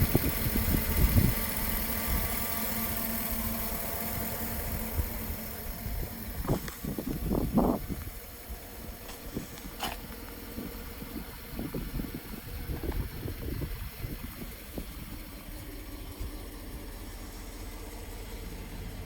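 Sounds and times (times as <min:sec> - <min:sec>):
engine idling rumble: 0:00.0 - 0:19.0.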